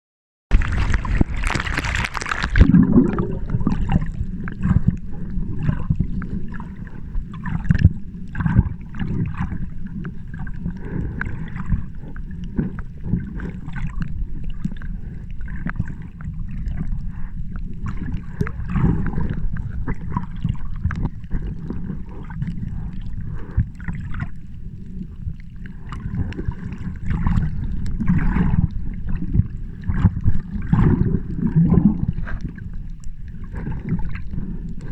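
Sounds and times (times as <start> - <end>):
sea water sloshing: 0.5 - 34.9
steady low rumble: 0.5 - 34.9.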